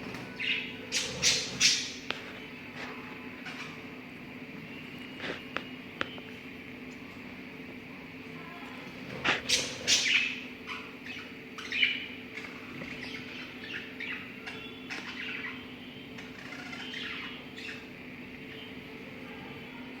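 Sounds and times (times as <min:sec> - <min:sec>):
lovebirds chirping: 0:00.0 - 0:20.0
steady low hum: 0:00.0 - 0:20.0.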